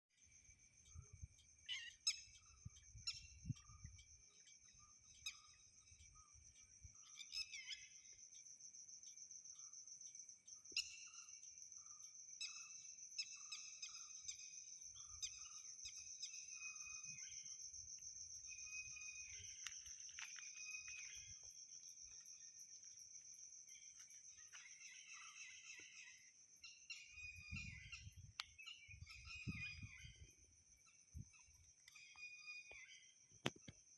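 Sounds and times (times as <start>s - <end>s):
insects trilling: 0.1s - 33.9s.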